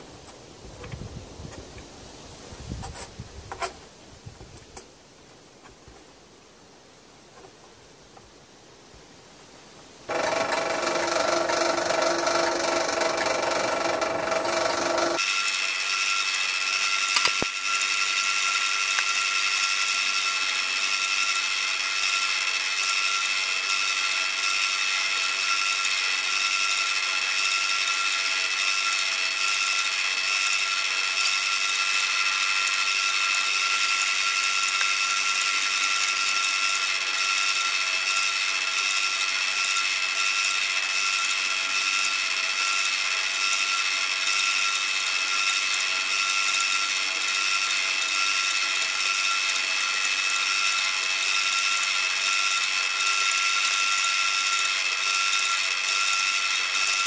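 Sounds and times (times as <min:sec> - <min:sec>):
power tool whining: 0:10.1 - 0:57.0.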